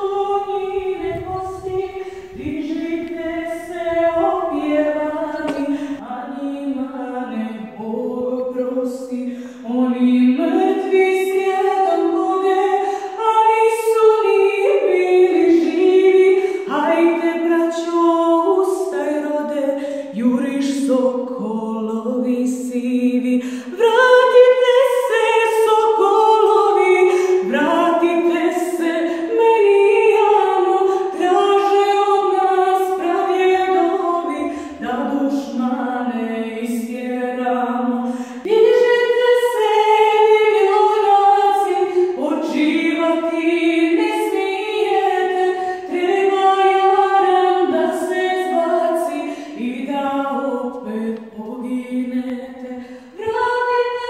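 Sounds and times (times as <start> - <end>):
woman singing unaccompanied: 0.0 - 54.0.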